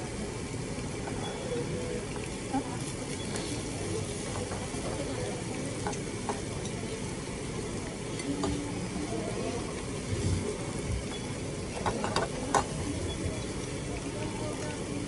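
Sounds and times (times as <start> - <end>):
restaurant din: 0.8 - 15.0
meat sizzling on a grill: 0.9 - 15.0.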